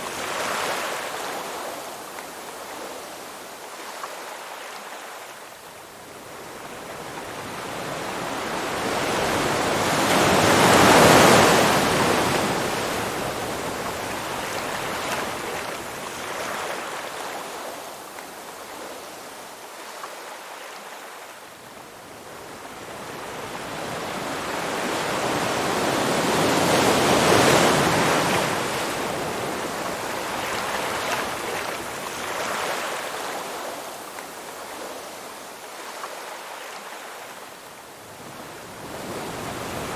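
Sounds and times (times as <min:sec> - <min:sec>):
waves washing in: 0:06.0 - 0:21.4, 0:22.4 - 0:39.9.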